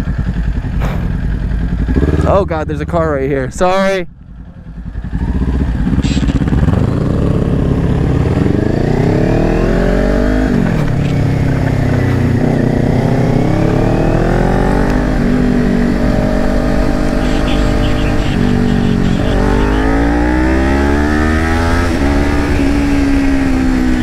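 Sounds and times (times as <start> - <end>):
motorcycle engine accelerating: 0.0 - 3.5, 4.1 - 24.0.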